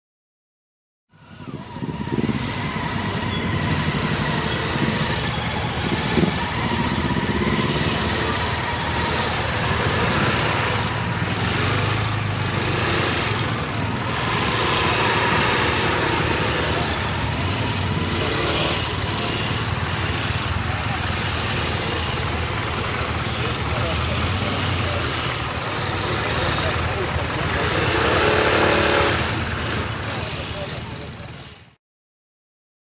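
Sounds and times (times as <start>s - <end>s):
motorbike engines in traffic: 1.1s - 31.8s.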